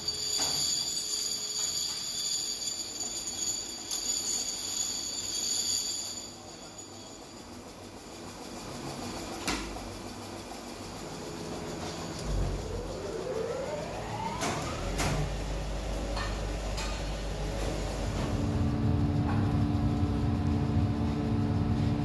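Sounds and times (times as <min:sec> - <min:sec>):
machine whine and clatter: 0:00.0 - 0:22.0.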